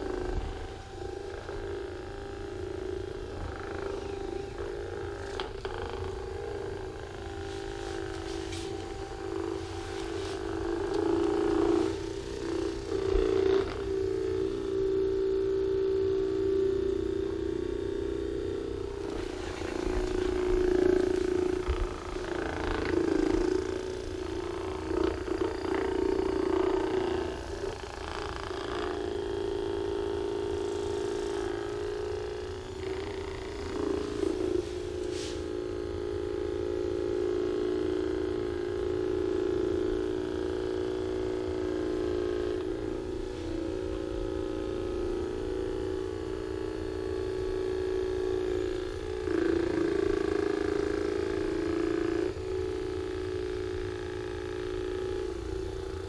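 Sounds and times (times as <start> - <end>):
electric massager buzzing: 0.0 - 56.0.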